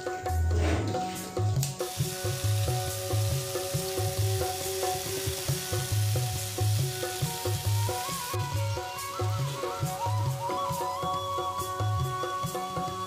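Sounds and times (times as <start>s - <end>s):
soft background music: 0.0s - 13.0s
food sizzling in pan: 1.0s - 11.6s.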